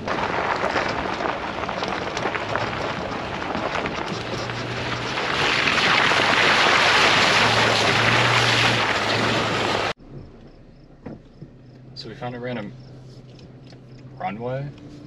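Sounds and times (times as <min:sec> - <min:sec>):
wind noise: 0:00.0 - 0:13.8
low engine hum: 0:00.0 - 0:15.0
tyres rolling on dirt road: 0:00.0 - 0:15.0.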